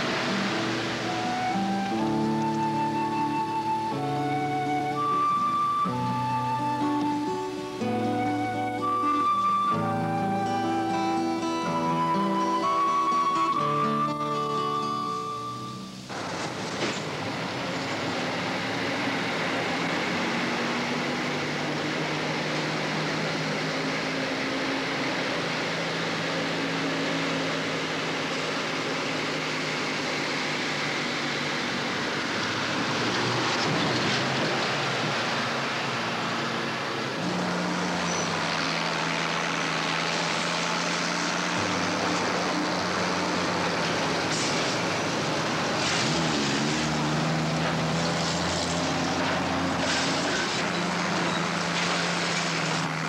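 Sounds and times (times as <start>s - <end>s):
dump truck engine running: 0.0s - 53.0s.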